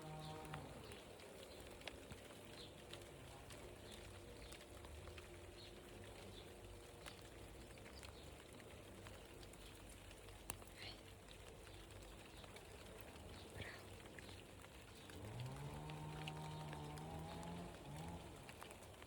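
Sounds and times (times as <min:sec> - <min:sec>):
light ticks: 0:00.0 - 0:19.0.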